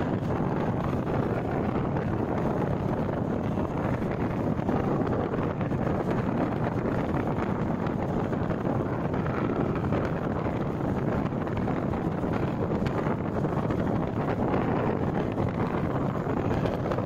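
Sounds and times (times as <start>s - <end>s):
train running noise: 0.0s - 17.0s
wind rushing over microphone: 0.0s - 17.0s.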